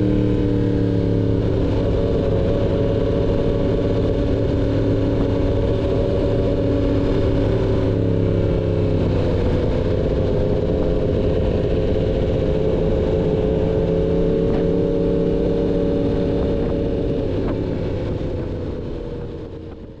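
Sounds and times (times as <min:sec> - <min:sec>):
motorcycle engine running steadily: 0:00.0 - 0:20.0.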